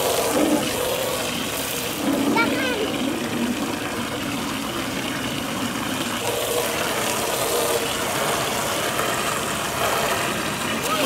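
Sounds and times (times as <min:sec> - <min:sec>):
hose water splashing into tub: 0:00.0 - 0:11.0.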